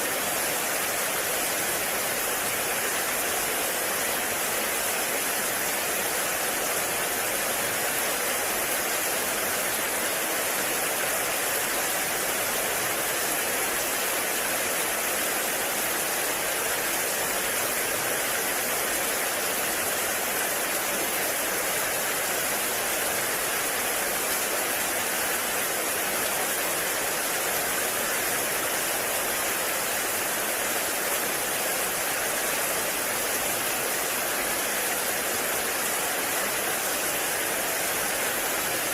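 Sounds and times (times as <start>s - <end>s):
heavy rain in forest: 0.0s - 38.9s.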